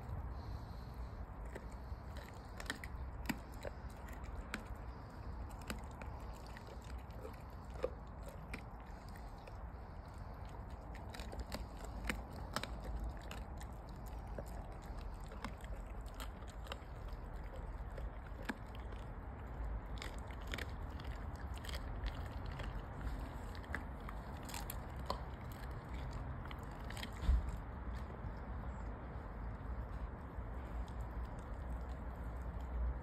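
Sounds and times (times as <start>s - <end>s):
dog chewing raw meat: 0.0s - 33.0s.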